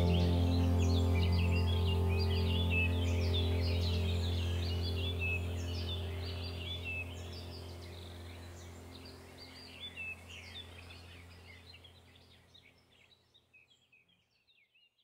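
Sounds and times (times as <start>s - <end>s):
low steady hum: 0.0s - 12.9s
small birds chirping: 0.0s - 15.0s.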